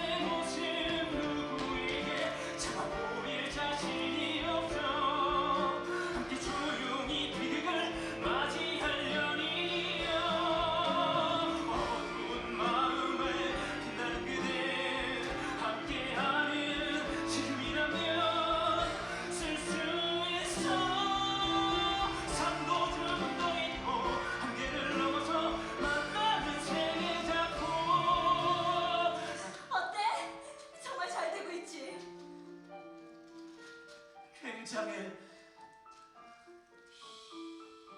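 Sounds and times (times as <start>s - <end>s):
instrumental accompaniment: 0.0s - 37.9s
musical theatre singing: 0.0s - 37.9s.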